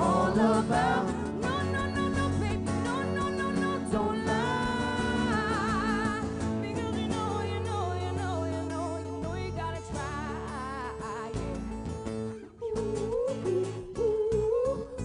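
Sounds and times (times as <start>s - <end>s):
acoustic guitar: 0.0s - 15.0s
bass: 0.0s - 15.0s
woman singing with vibrato: 0.0s - 15.0s.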